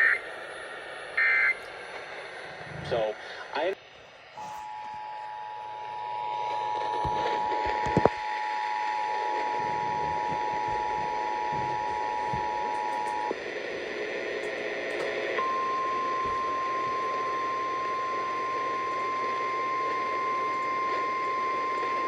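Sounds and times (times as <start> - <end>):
steady warning alarm tone: 0.0 - 3.2, 4.4 - 13.4, 15.4 - 22.0
radio hiss: 0.0 - 22.0.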